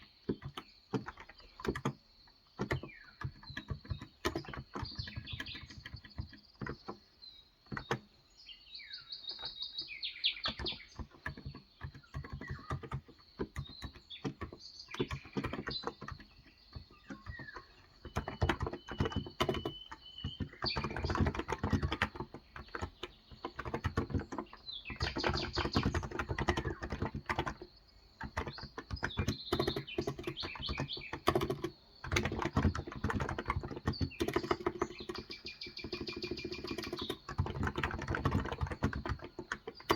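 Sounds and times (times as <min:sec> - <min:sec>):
keyboard typing: 0:00.0 - 0:08.2, 0:09.3 - 0:39.9
birds chirping: 0:00.0 - 0:39.9.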